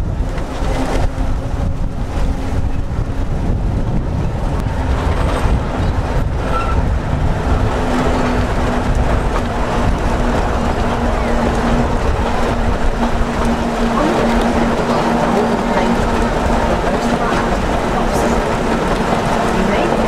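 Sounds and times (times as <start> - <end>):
tram wheels rumbling on track: 0.0 - 20.0.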